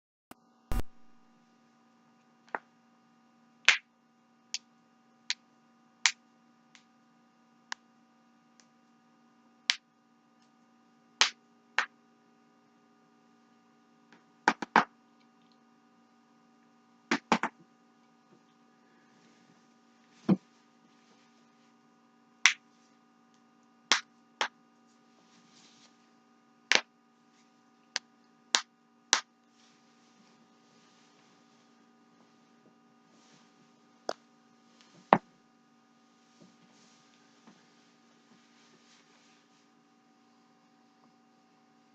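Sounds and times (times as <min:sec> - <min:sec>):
faint electrical hum: 0:00.3 - 0:41.9.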